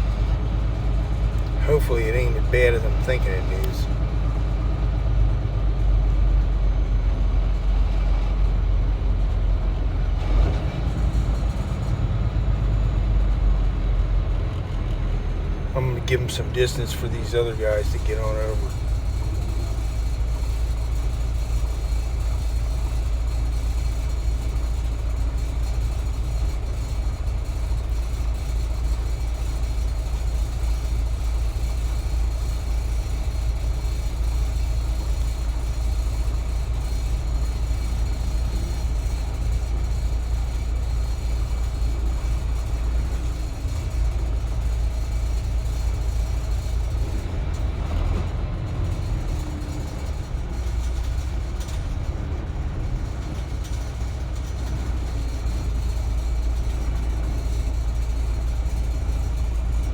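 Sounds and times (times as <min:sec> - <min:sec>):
diesel truck engine rumbling: 0:00.0 - 0:59.9.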